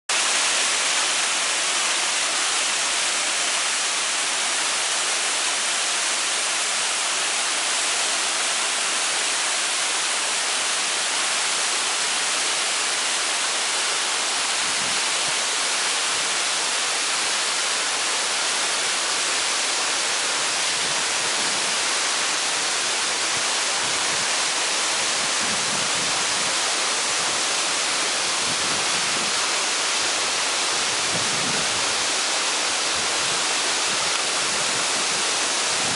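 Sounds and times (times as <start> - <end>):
waterfall cascading over rocks: 0.1 - 35.9.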